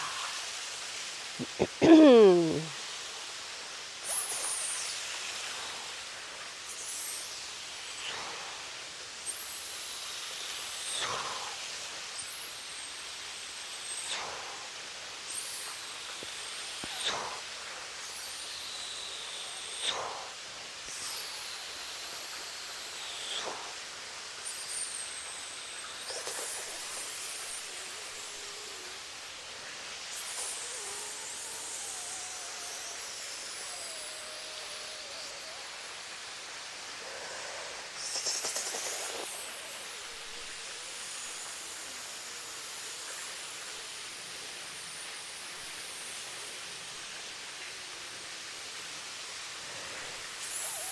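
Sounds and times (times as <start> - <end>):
small waterfall hissing: 0.0 - 50.9.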